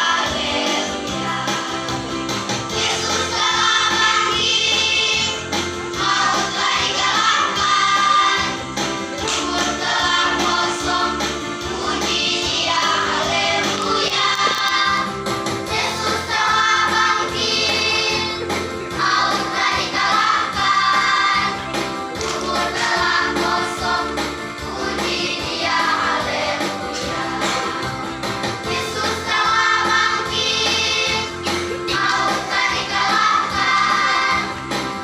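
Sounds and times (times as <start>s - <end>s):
children's choir singing: 0.0s - 35.0s
instrumental accompaniment: 0.0s - 35.0s.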